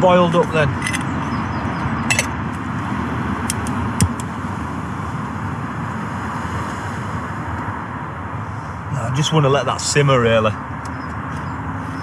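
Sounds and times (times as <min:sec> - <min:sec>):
motorway traffic rushing: 0:00.0 - 0:12.0.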